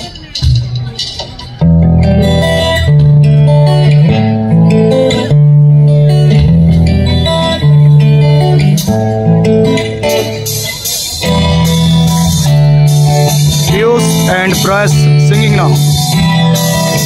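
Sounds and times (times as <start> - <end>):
guitars playing chords: 0.0 - 17.0
held bass notes: 1.6 - 17.0.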